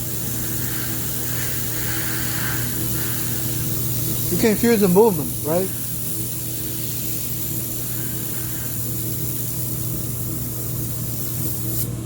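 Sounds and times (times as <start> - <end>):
laser welder humming and hissing: 0.0 - 12.0.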